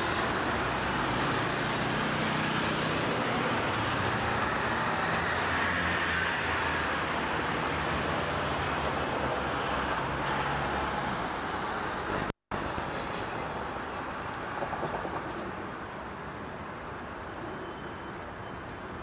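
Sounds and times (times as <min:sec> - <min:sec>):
passing cars: 0:00.0 - 0:15.5.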